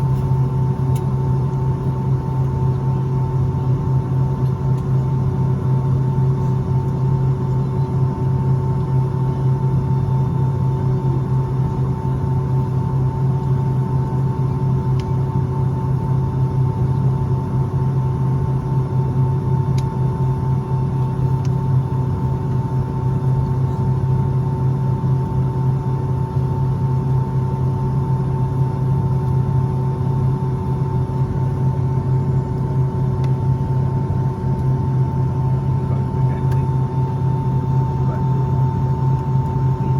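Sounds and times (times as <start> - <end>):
aircraft cabin hum: 0.0 - 39.9.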